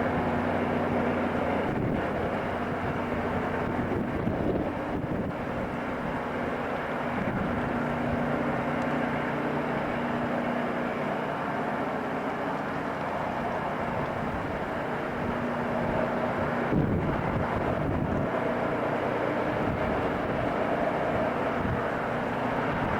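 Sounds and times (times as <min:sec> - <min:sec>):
diesel engine hum: 0:00.0 - 0:22.9
rail grinding machine: 0:00.0 - 0:22.9.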